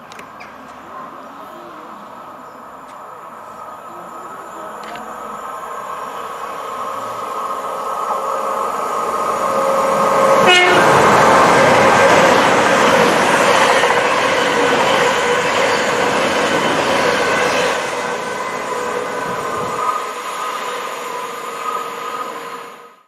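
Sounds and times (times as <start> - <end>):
train wheels rushing on rail: 0.0 - 23.0.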